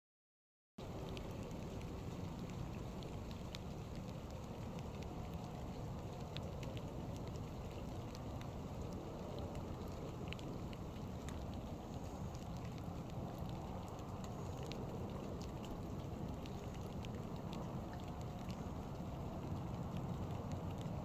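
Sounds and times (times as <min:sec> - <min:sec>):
raindrops ticking: 0:00.8 - 0:21.0
steady low rumble: 0:00.8 - 0:21.0.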